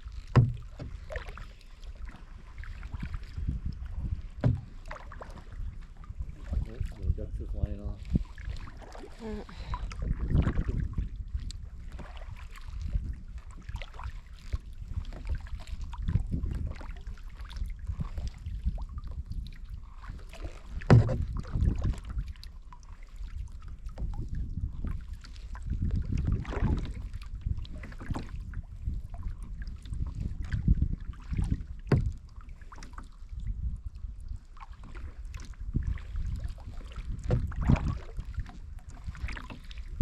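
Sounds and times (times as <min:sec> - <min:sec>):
paddle splashing in water: 0:00.0 - 0:40.0
wind rumble on microphone: 0:00.0 - 0:40.0.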